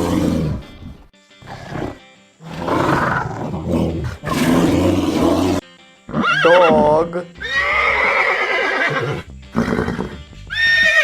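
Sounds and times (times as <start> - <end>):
bear roaring: 0.0 - 10.9.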